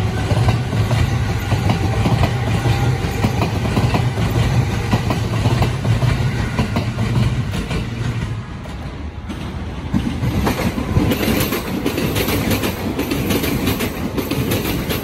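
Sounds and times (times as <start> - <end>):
train rumbling past: 0.0 - 15.0
wheels clicking over rail joints: 0.0 - 15.0.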